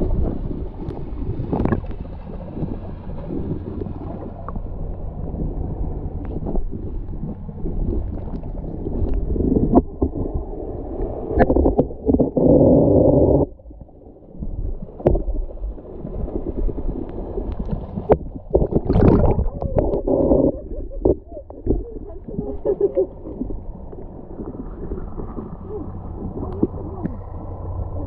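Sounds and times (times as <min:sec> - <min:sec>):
churning splash: 0:00.0 - 0:28.0
underwater sloshing and gurgling: 0:00.0 - 0:28.0.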